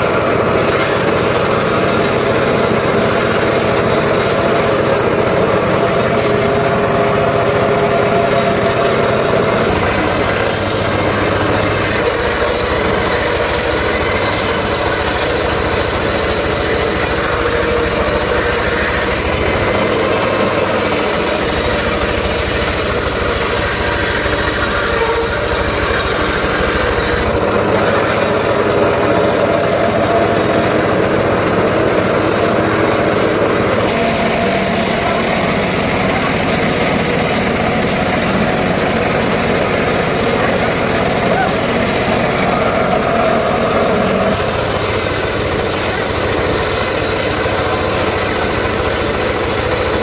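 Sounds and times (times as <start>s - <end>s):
engine-driven saw cutting wood: 0.0s - 50.0s.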